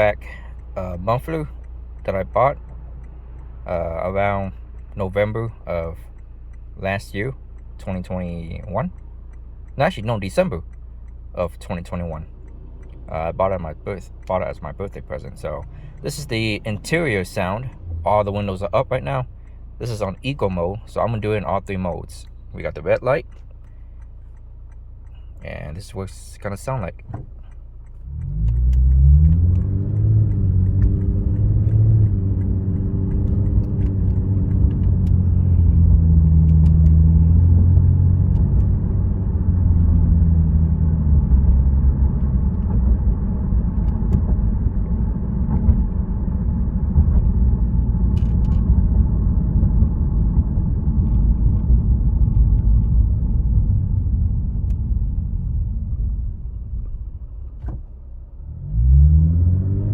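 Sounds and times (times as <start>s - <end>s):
car engine drone from inside cabin: 0.0s - 59.9s.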